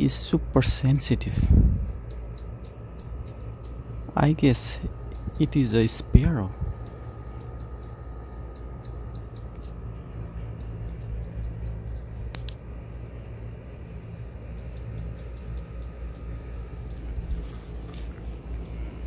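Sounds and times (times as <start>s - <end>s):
steady low rumble: 0.0s - 19.0s
bird chip notes: 1.9s - 13.0s, 14.0s - 19.0s.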